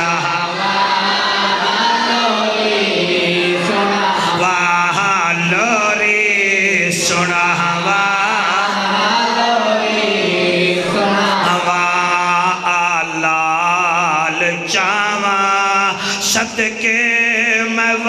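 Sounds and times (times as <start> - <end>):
man chanting into a microphone: 0.0 - 0.8, 3.3 - 18.0.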